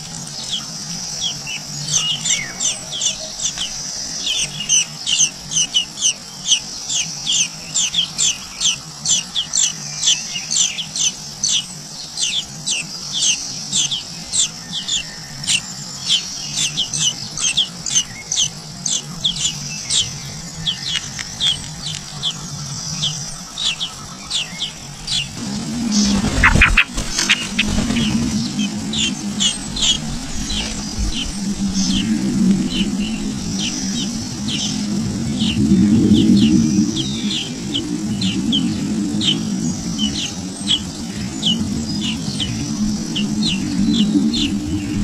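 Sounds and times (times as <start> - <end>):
nestling birds chirping: 0.0 - 45.0.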